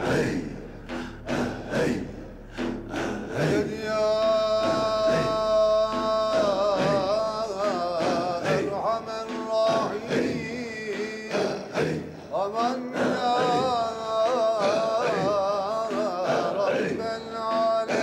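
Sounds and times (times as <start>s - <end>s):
men chanting rhythmically: 0.0s - 18.0s
solo male voice singing: 3.0s - 18.0s.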